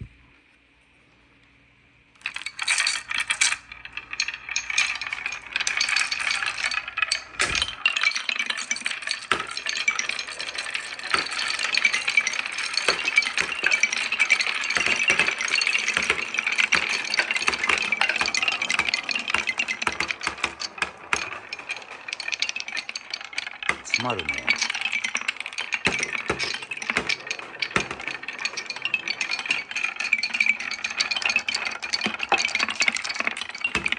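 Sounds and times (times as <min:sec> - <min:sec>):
marbles rattling down wooden run: 0:02.2 - 0:33.9.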